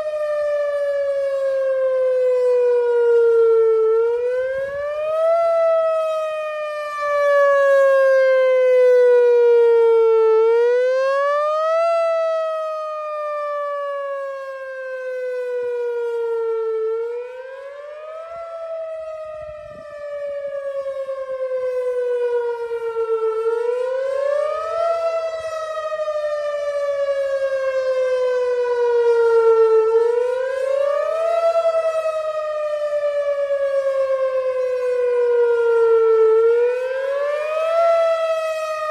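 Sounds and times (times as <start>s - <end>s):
rising and falling warning siren: 0.0s - 38.9s.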